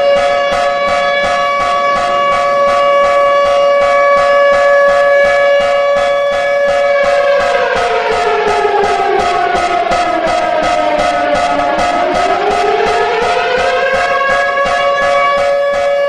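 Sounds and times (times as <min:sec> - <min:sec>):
loud pulsing emergency alert alarm: 0:00.0 - 0:16.0.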